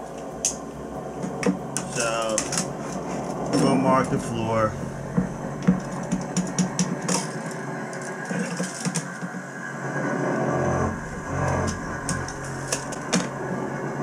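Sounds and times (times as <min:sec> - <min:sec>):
low rumble: 0:00.0 - 0:08.0, 0:09.6 - 0:14.0.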